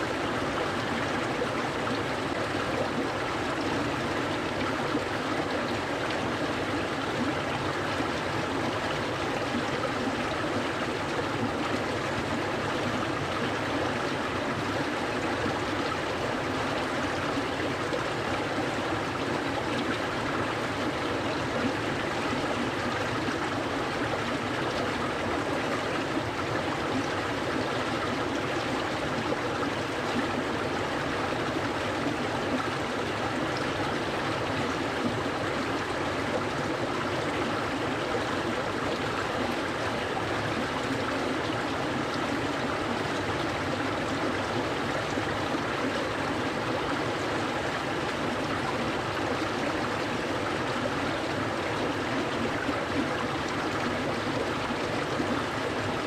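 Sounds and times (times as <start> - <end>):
stream rushing and babbling: 0.0 - 56.0.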